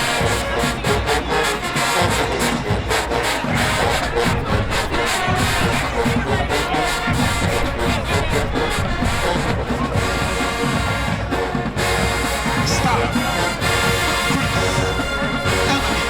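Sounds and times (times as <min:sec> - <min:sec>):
marching band brass: 0:00.0 - 0:16.0
drum hits: 0:02.0 - 0:16.0.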